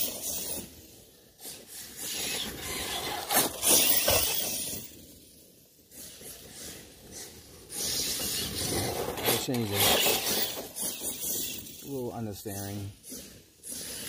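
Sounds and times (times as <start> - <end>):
rc car tyres hissing and scraping: 0.0 - 14.0.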